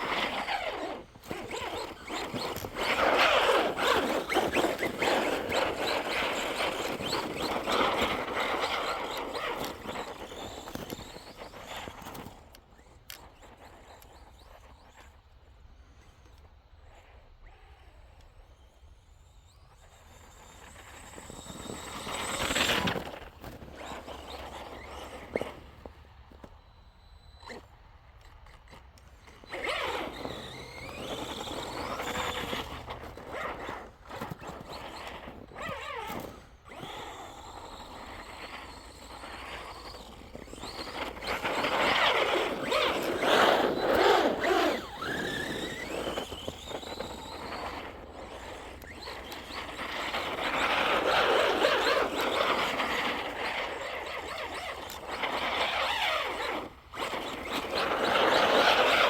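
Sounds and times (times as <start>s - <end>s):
rc truck motor whining: 0.0s - 59.0s.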